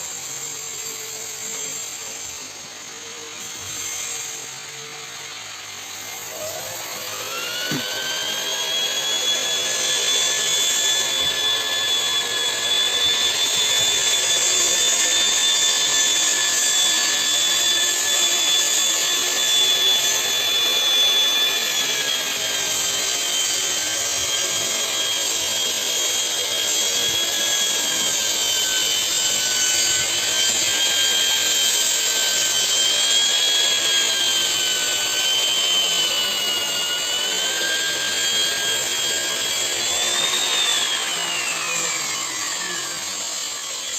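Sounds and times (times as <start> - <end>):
drywall sander motor whine: 0.0 - 43.9.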